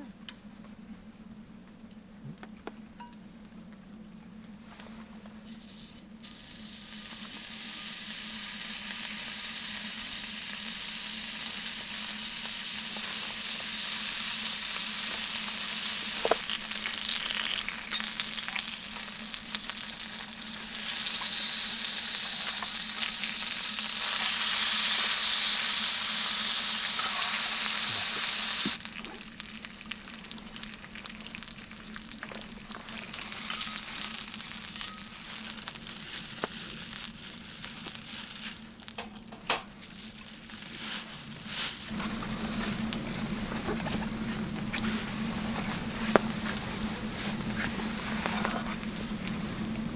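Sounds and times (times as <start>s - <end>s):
meat sizzling over campfire: 5.4s - 49.9s.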